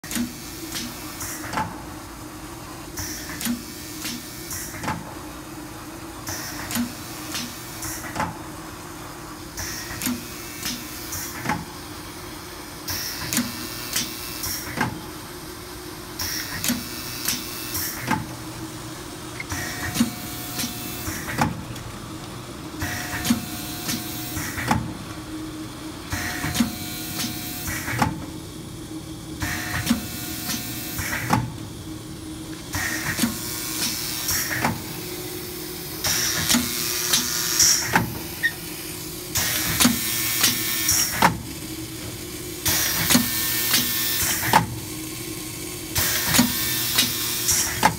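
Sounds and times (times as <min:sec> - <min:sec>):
steady machine hum: 0:00.1 - 0:47.9.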